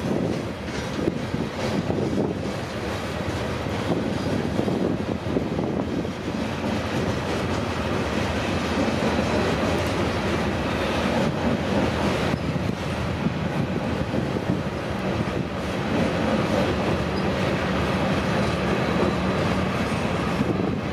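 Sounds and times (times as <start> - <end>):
train wheels rolling on rails: 0.0 - 20.9.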